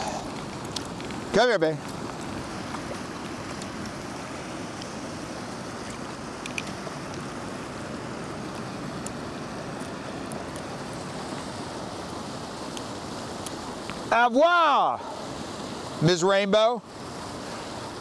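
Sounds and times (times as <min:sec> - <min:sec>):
river current rushing: 0:00.0 - 0:18.0.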